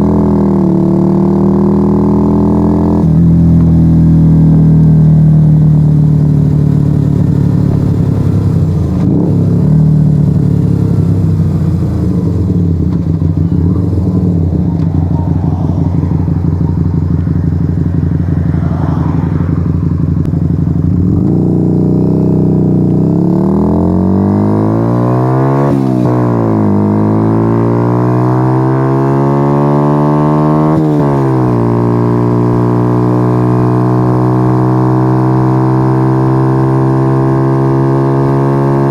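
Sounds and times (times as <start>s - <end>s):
loud motorcycle engine revving: 0.0s - 38.9s.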